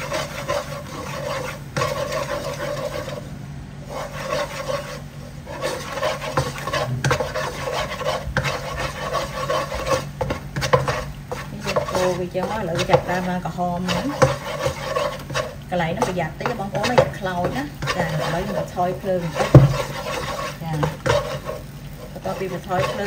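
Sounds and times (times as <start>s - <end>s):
sauce bubbling: 0.0s - 23.0s
spatula scraping a wok: 0.0s - 23.0s.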